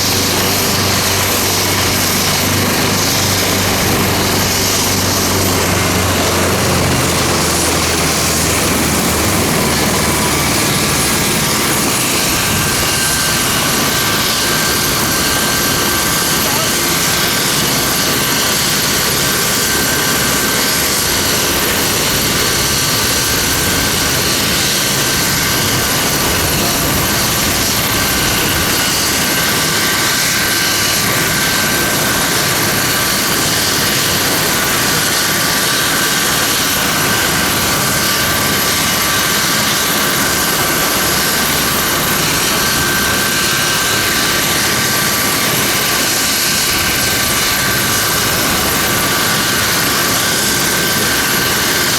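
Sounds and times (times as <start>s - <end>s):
helicopter engines whining: 0.0s - 51.9s
helicopter rotor noise: 0.0s - 51.9s.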